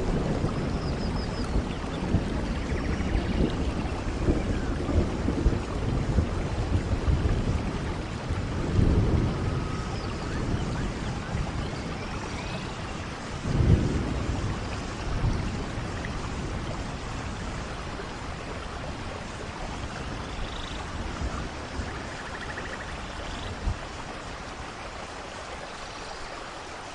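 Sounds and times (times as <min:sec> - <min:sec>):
thunder rolling: 0:00.0 - 0:22.6
steady rain falling: 0:00.0 - 0:26.9.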